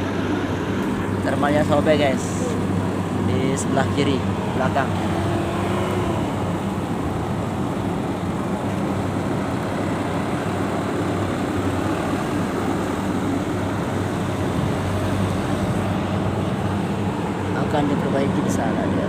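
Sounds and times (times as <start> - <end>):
engine rumble: 0.0 - 19.0.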